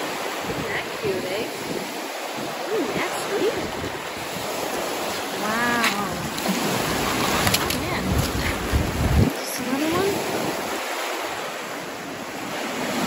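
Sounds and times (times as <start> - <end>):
waves washing over pebbles: 0.0 - 13.0.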